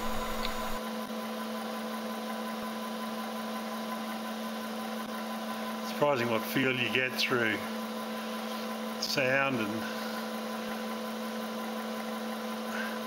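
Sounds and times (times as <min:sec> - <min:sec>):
milling machine spindle humming: 0:00.0 - 0:13.0.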